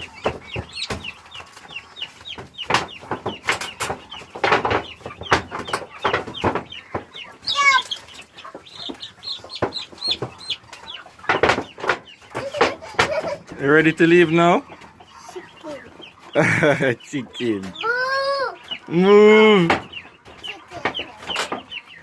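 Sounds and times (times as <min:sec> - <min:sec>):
chickens clucking and squawking: 0:00.0 - 0:22.0
high chick peeps: 0:00.0 - 0:22.0.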